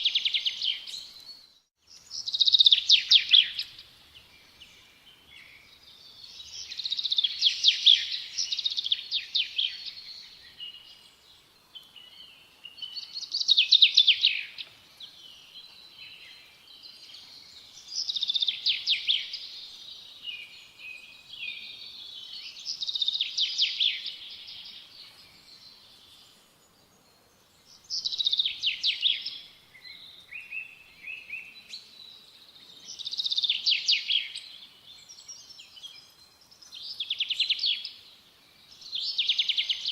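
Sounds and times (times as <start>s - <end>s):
small songbird trilling song: 0.0s - 26.3s, 27.6s - 39.9s.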